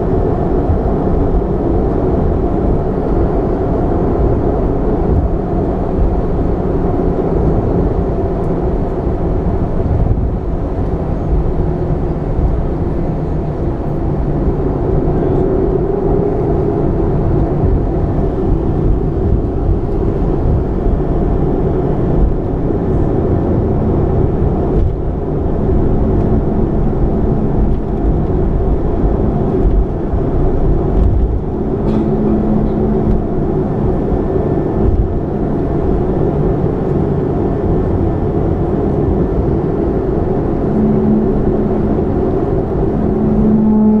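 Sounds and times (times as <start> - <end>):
jet engines rumbling in cabin: 0.0 - 44.0.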